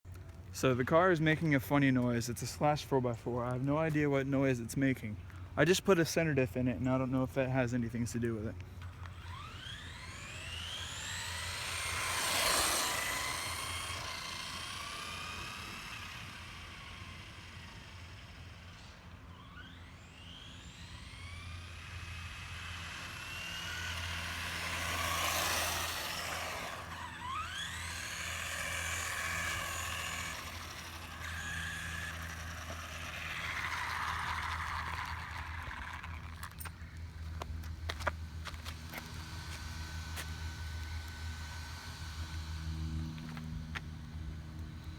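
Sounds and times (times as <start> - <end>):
toy truck electric motor whining: 8.8 - 44.9.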